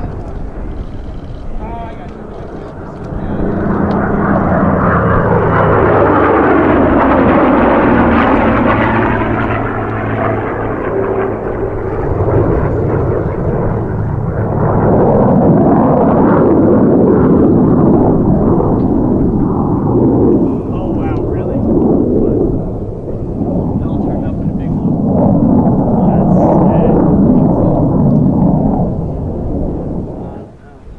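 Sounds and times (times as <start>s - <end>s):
aircraft engine noise overhead: 0.0s - 30.9s.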